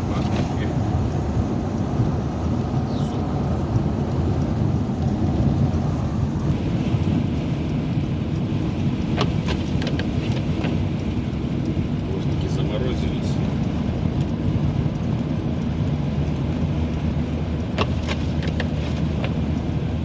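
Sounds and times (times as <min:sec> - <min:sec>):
van road noise rumble: 0:00.0 - 0:20.0.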